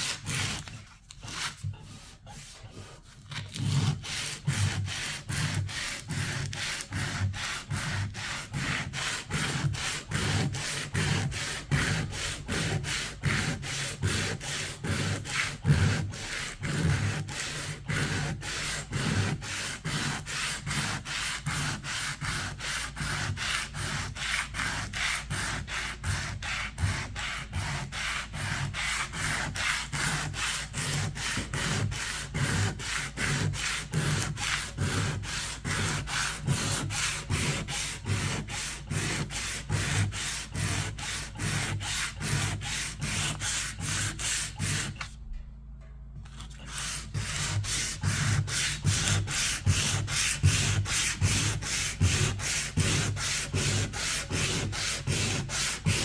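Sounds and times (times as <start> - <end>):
hand sanding strokes: 0.0 - 45.1, 46.6 - 56.0.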